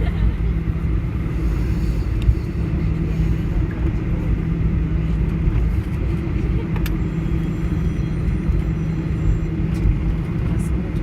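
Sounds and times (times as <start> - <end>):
airplane cabin rumble: 0.0 - 11.0
engine hum: 0.0 - 11.0.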